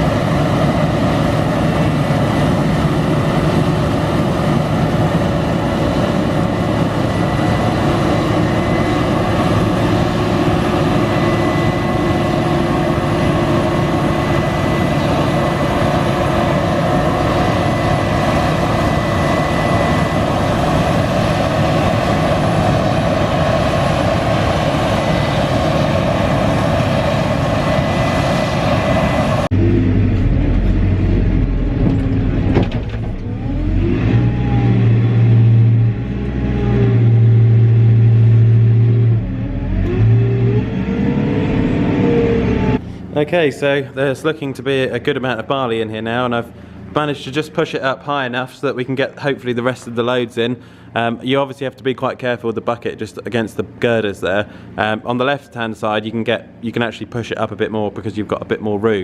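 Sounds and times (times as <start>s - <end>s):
diesel engine running: 0.0s - 51.1s, 52.2s - 55.0s.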